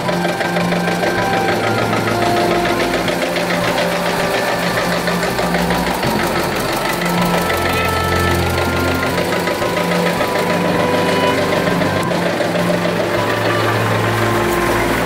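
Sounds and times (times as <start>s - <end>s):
background music: 0.0s - 15.0s
tractor engine running: 0.0s - 15.0s.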